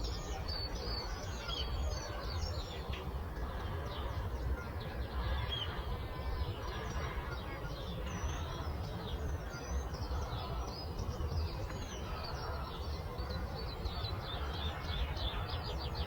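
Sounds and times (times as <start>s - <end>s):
small birds chirping and singing: 0.0s - 16.0s.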